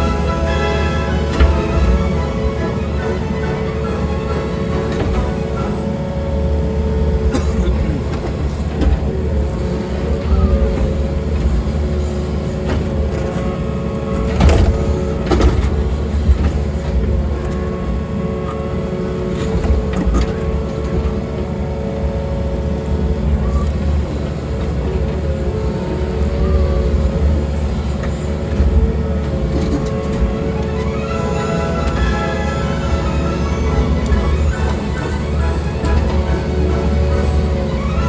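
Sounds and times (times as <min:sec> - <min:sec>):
excavator knocks and scrapes: 0:00.0 - 0:18.4, 0:19.0 - 0:38.0
excavator diesel engine rumble: 0:00.0 - 0:38.0.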